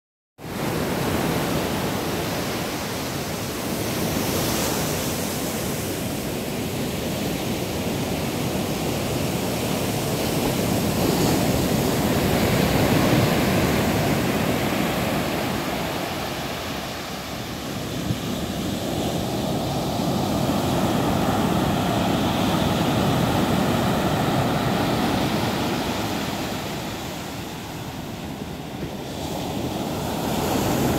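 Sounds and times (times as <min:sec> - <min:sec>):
ocean surf breaking: 0:00.4 - 0:30.9.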